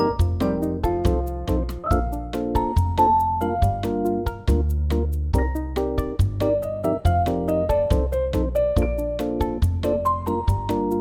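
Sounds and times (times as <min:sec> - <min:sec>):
steady bass: 0:00.0 - 0:11.0
steady beat: 0:00.0 - 0:11.0
upbeat mallet melody: 0:00.0 - 0:11.0.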